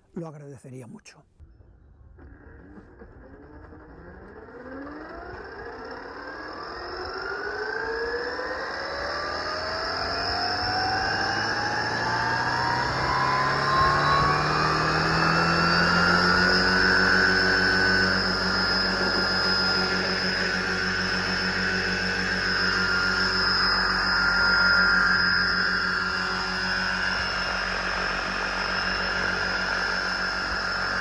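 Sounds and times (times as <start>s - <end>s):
model helicopter rotor whine: 1.4s - 31.0s.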